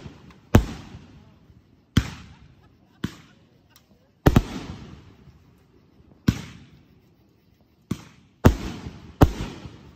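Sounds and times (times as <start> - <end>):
firework shells bursting: 0.0 - 9.9.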